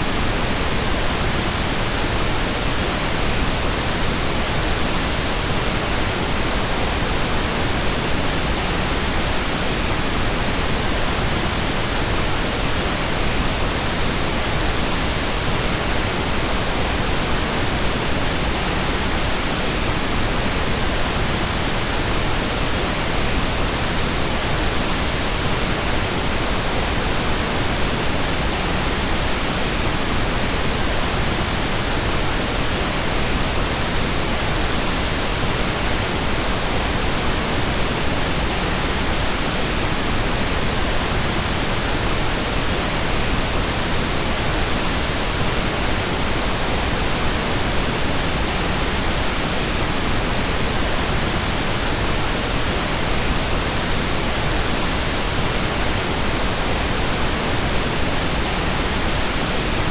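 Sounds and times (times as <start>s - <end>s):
steady pink noise: 0.0s - 59.9s.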